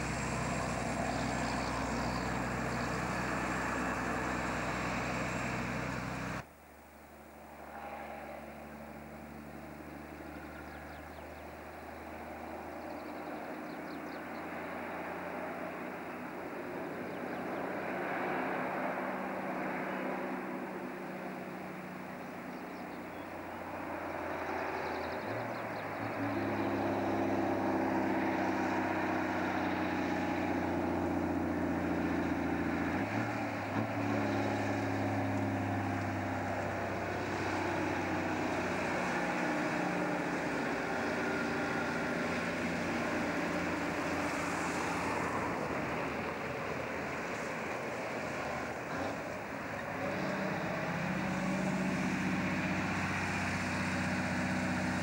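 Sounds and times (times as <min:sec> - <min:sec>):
truck diesel engine under load: 0:00.0 - 0:55.0
tyre and road noise: 0:00.0 - 0:55.0.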